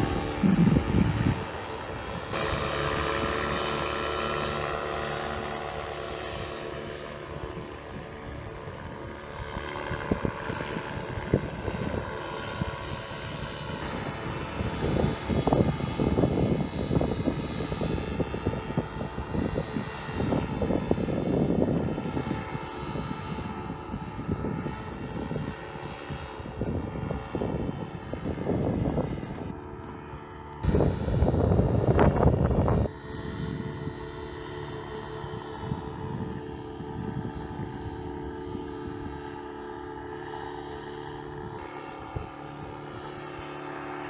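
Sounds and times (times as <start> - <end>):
paramotor engine and propeller: 0.0 - 44.0
wind buffeting microphone: 0.0 - 44.0.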